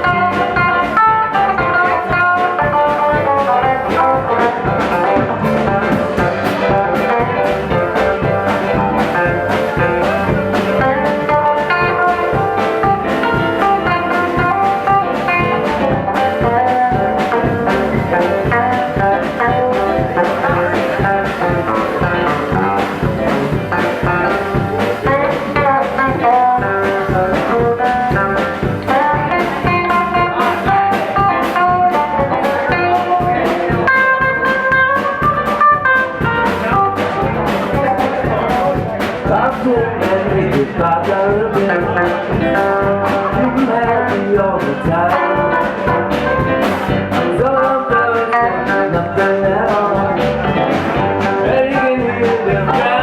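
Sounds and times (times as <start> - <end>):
guitar lines: 0.0 - 53.0
steady drum beat: 0.0 - 53.0.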